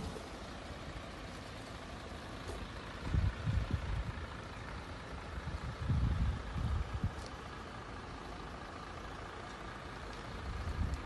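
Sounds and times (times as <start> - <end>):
faint fire crackles: 0.0 - 11.0
low rumbling buffets: 0.0 - 11.0.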